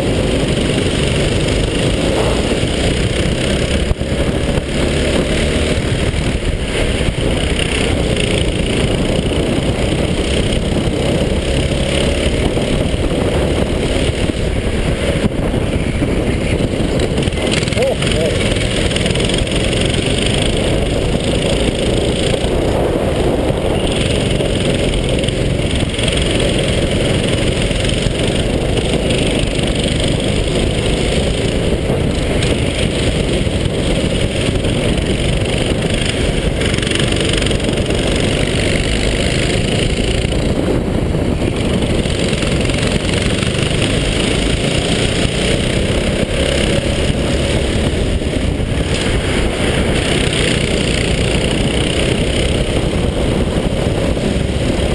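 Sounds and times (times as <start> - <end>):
muffled go-kart engines: 0.0 - 54.9.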